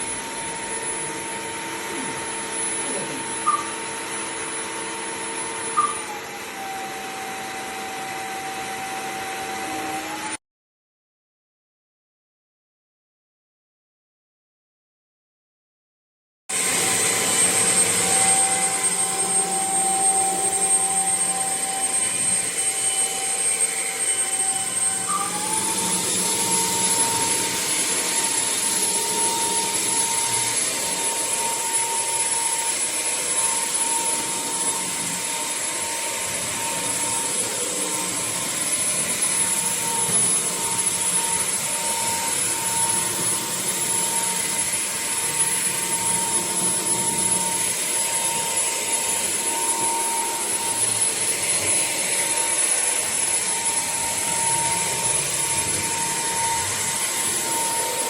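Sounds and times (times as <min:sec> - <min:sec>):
vacuum suction motor whine: 0:00.0 - 0:10.4, 0:16.5 - 0:58.0.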